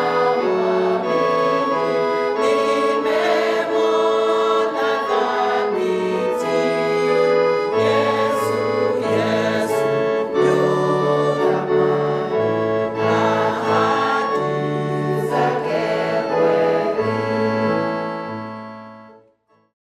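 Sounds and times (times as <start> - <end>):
voices singing: 0.0 - 18.3
church music: 0.0 - 19.6.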